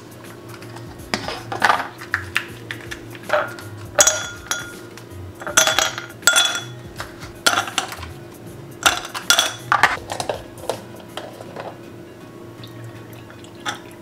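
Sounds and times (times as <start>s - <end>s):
dishes and cutlery clinking: 0.5s - 8.2s, 8.8s - 11.8s, 13.2s - 14.0s.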